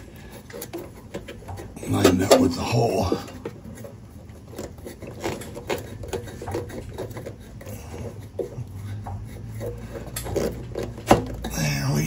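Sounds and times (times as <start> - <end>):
hand tool clicks and scrapes: 0.0 - 12.0.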